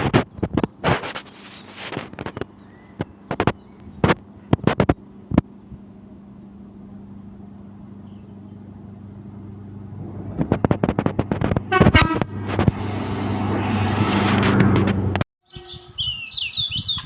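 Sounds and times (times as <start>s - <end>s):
train engine hum: 0.0s - 15.2s.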